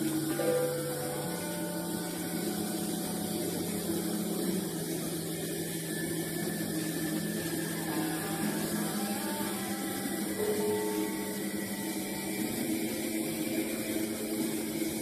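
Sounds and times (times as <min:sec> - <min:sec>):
haze of noise: 0:00.0 - 0:15.0
low drone of held tones: 0:00.0 - 0:15.0.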